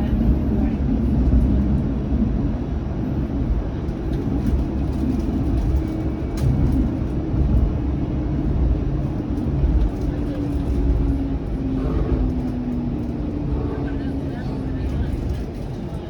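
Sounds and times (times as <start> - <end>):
streetcar wheels rumbling on rails: 0.0 - 16.0.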